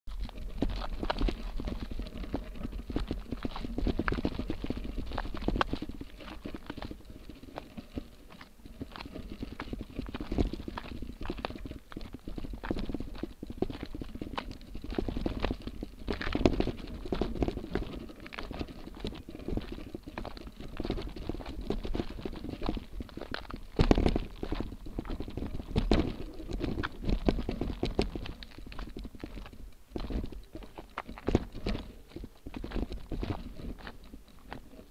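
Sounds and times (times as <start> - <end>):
bike rattling over rocks: 0.1 - 34.9
tyres crunching on gravel: 0.1 - 34.9.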